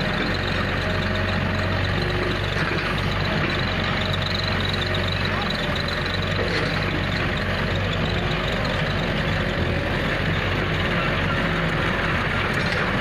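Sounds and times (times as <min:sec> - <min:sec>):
diesel tractor engines running: 0:00.0 - 0:13.0.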